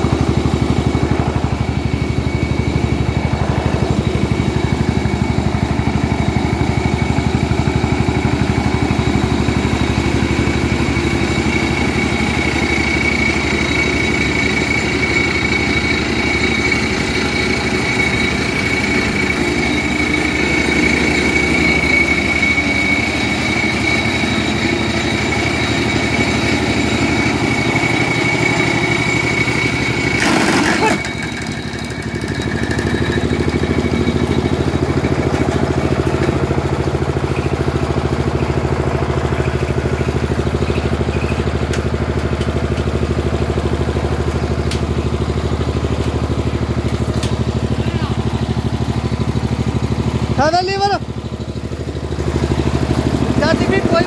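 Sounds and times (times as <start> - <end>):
steady high whine: 0.0 - 50.3
rotary mower cutting grass: 0.0 - 54.0
single-cylinder diesel engine running: 0.0 - 54.0.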